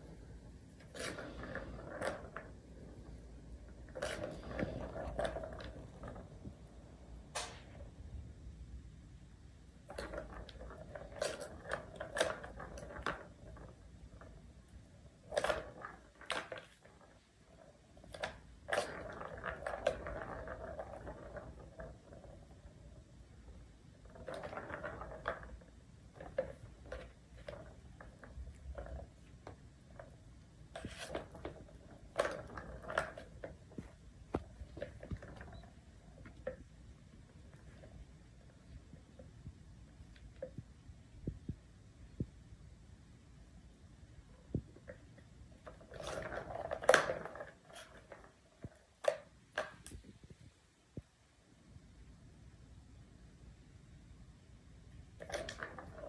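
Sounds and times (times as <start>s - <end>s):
plastic balls rolling on tracks: 0.0s - 8.3s, 9.7s - 41.5s, 43.6s - 50.5s, 54.8s - 56.0s.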